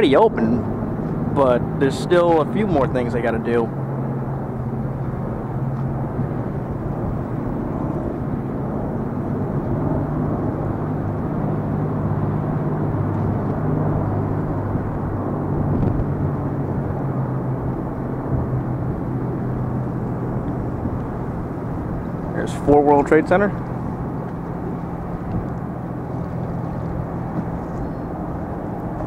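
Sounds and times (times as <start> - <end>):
low engine drone: 0.0 - 29.0.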